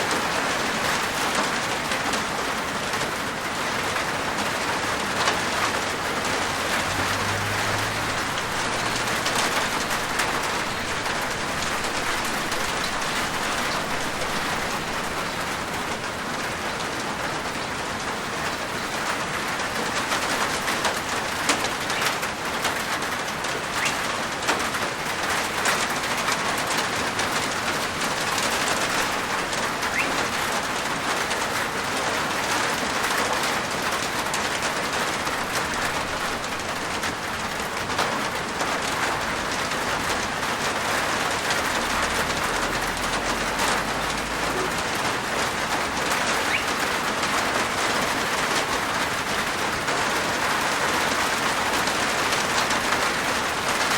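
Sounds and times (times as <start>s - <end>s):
rain on a roof: 0.0s - 53.9s
raindrops ticking: 3.8s - 53.9s.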